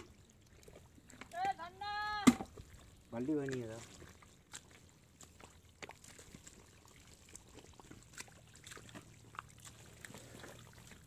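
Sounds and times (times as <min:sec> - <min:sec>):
soft ticks and drips: 0:00.0 - 0:11.0
wet mud squelches and splashes: 0:00.0 - 0:11.0.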